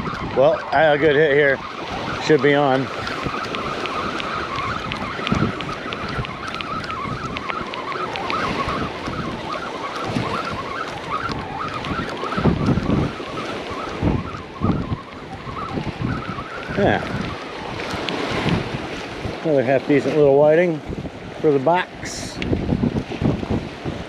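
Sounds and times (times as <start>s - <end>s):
surf washing: 0.0s - 24.0s
wind buffeting microphone: 0.0s - 24.0s.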